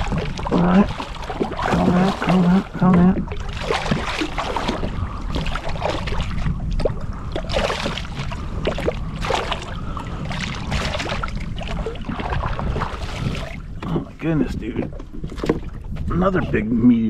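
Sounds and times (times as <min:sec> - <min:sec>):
water splashing and sloshing: 0:00.0 - 0:17.0
wind rumble on microphone: 0:00.0 - 0:17.0.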